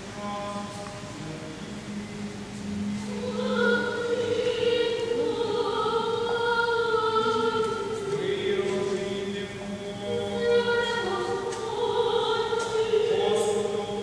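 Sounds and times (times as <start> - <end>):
choir singing a chant: 0.0 - 14.0.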